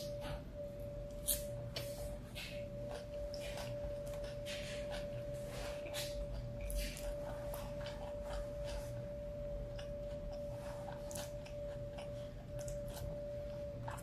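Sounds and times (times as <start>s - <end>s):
steady high hum: 0.0s - 14.0s.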